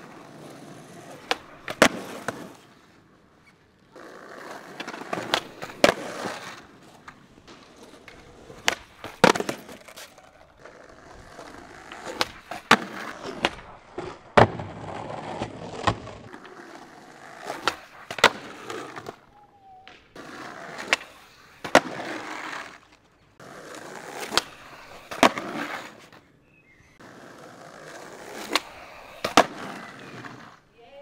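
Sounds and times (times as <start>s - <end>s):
skateboard popping and landing: 0.0s - 26.3s, 27.0s - 31.0s
skateboard wheels rolling on concrete: 0.0s - 31.0s.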